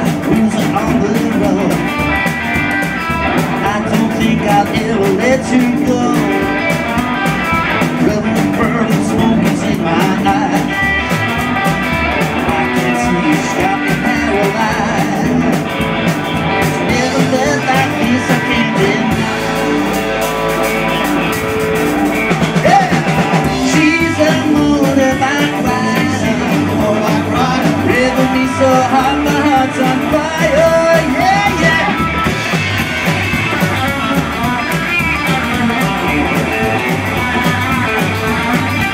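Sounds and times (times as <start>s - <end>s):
rockabilly band playing live: 0.0s - 38.9s.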